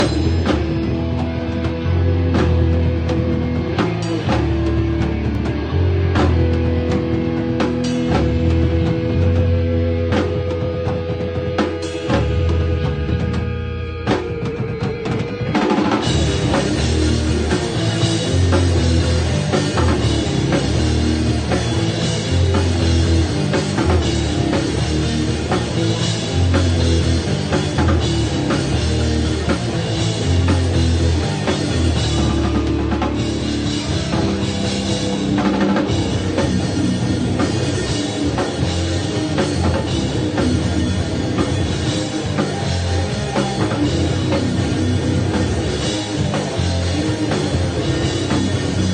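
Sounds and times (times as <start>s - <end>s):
drum kit: 0.0s - 48.9s
rock band playing live: 0.0s - 48.9s.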